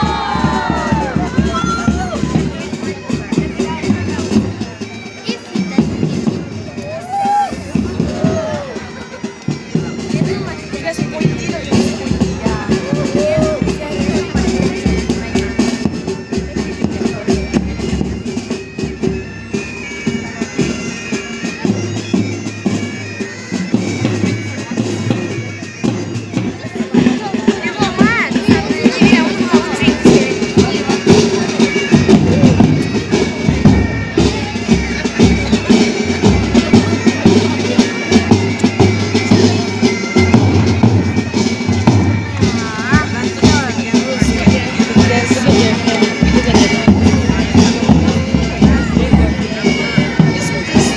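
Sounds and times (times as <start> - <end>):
bagpipes droning: 0.0 - 50.9
drum strokes: 0.0 - 50.9.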